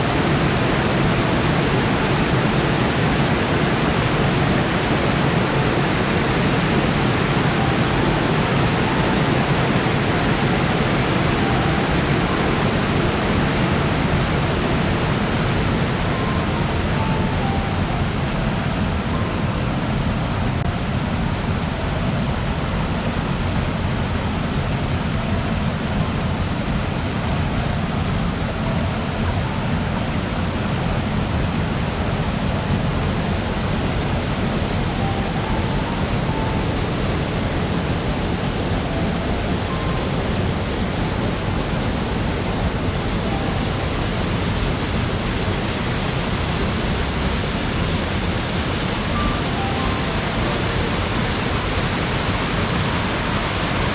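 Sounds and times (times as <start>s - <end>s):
waterfall pouring and splashing: 0.0s - 53.9s.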